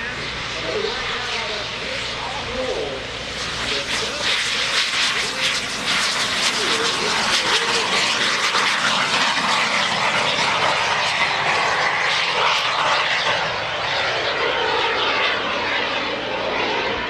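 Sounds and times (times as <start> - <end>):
jet engine hiss: 0.0 - 17.0.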